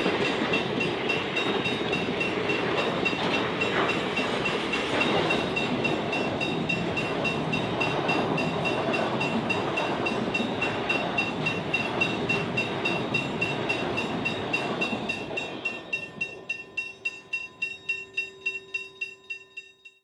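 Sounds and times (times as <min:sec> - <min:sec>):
freight train rolling on rails: 0:00.0 - 0:19.7
bell ringing steadily: 0:00.0 - 0:20.0.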